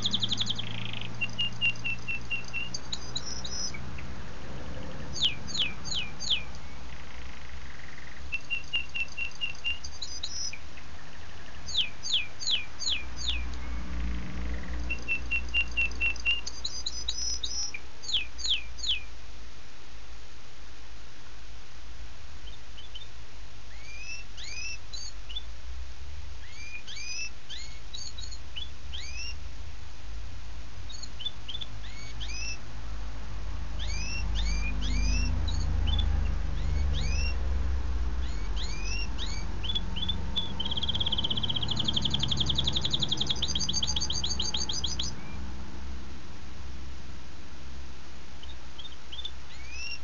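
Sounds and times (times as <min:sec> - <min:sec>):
songbird singing: 0:00.0 - 0:19.6, 0:22.1 - 0:50.0.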